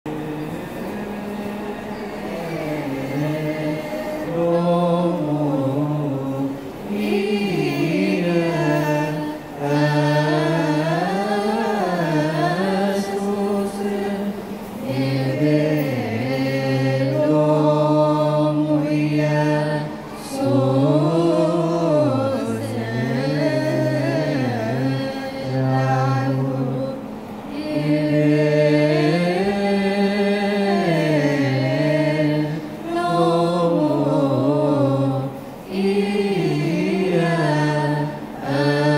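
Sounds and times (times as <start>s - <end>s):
choir chanting a hymn: 0.1s - 38.9s.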